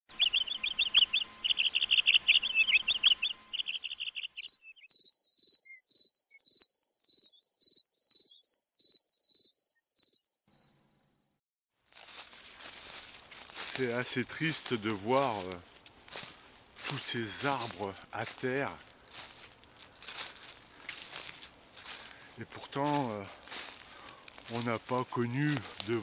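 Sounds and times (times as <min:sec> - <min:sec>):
insects chirping: 0:00.1 - 0:11.2, 0:12.0 - 0:26.0.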